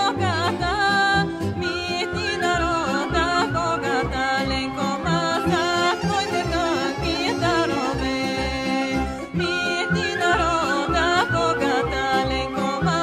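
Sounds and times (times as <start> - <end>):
instrumental accompaniment: 0.0 - 13.0
ornamented folk melody: 0.0 - 13.0.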